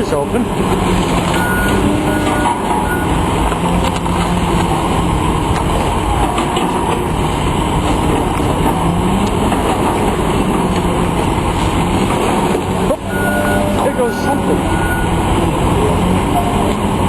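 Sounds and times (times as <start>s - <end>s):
large vehicle engine running: 0.0s - 17.0s.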